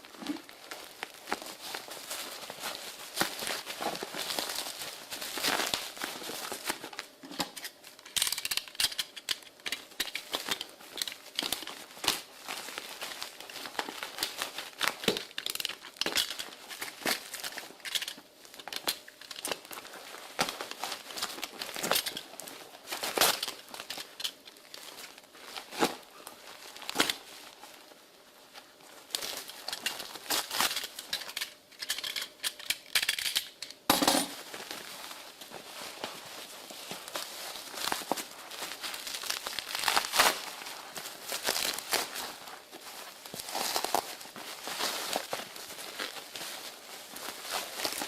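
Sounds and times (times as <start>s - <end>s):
packaging crinkling and tearing: 0.0s - 48.0s.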